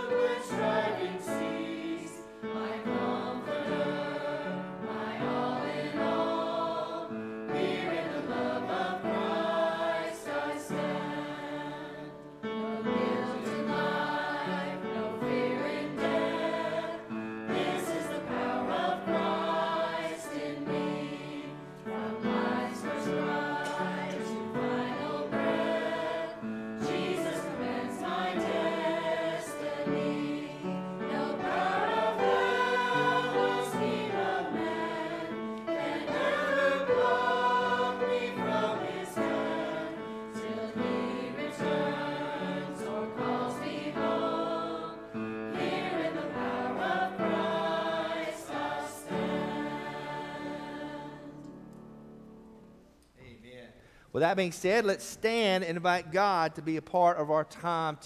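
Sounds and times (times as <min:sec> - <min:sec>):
choir singing a hymn: 0:00.0 - 0:52.8.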